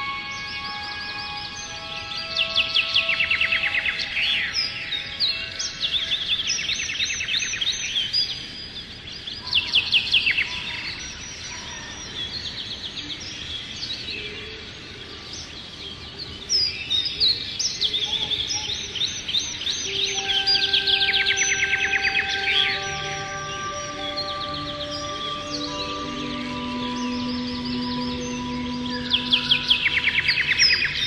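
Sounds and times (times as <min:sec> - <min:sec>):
soft ambient music: 0:00.0 - 0:31.0
songbirds chirping and trilling: 0:00.0 - 0:31.0.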